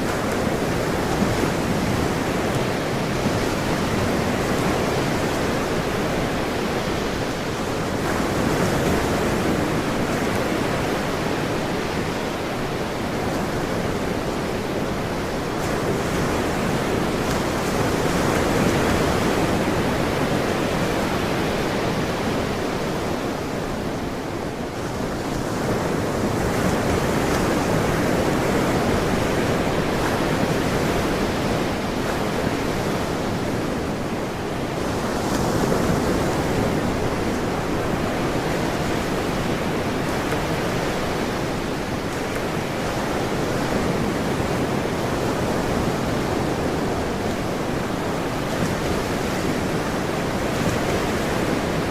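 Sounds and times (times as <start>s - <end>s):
ocean waves breaking: 0.0s - 51.9s.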